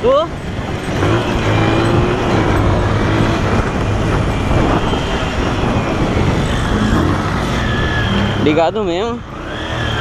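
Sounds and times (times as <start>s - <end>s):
wind noise on microphone: 0.4s - 9.5s.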